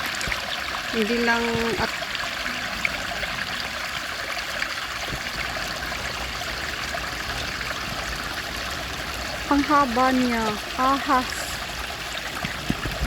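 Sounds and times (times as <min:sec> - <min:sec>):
water flowing in a stream: 0:00.0 - 0:13.0.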